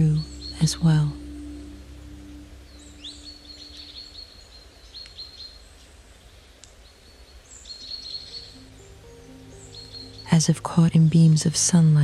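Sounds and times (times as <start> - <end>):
faint forest background noise: 0.0 - 12.0
songbird chirping: 0.0 - 12.0.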